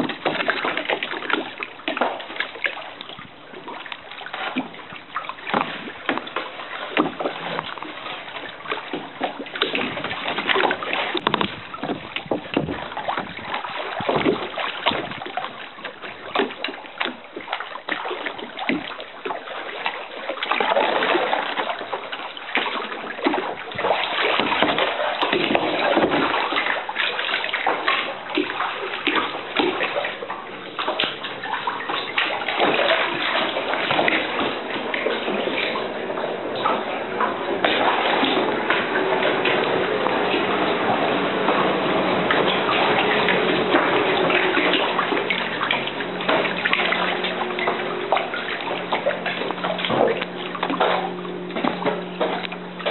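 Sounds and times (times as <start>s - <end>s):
water splashing against rock: 0.0s - 52.9s.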